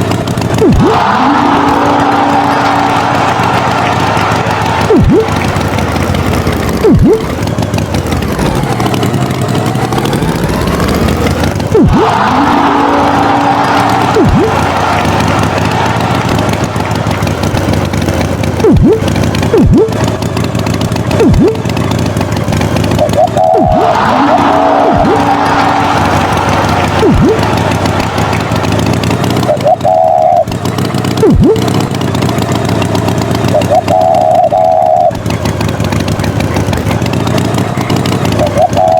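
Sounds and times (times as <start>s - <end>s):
cartoon tractor engine: 0.0s - 38.9s
steady pitched tone: 0.6s - 20.2s, 21.1s - 21.8s, 22.8s - 31.9s, 33.4s - 35.2s.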